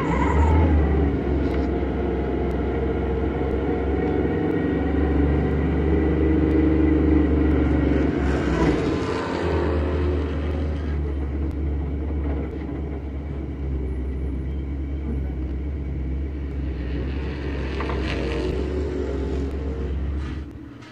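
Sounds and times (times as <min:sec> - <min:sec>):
car engine rumbling at low revs: 0:00.0 - 0:20.9.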